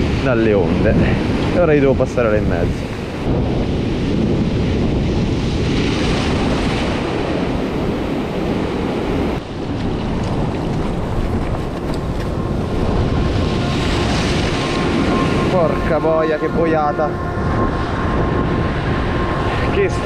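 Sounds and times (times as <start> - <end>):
sea surf breaking over rocks: 0.0 - 20.0
wind buffeting microphone: 0.0 - 20.0.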